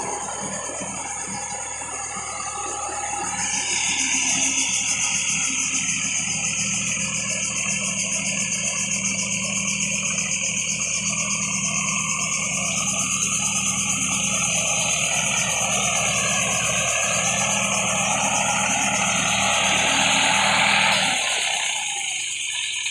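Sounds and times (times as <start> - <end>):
high hiss: 0.0 - 22.9
tractor diesel engine running: 0.0 - 22.9.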